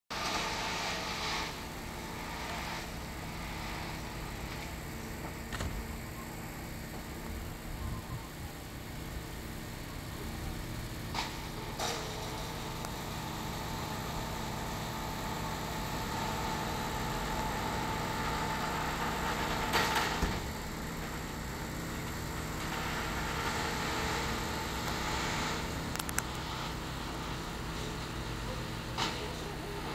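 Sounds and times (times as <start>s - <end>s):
steady engine hum: 0.1s - 29.9s.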